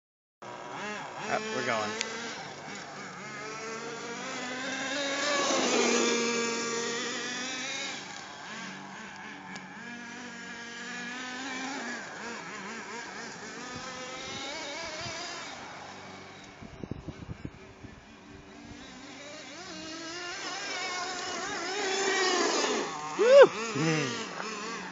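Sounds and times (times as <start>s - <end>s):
small nitro engine revving: 0.4s - 24.9s.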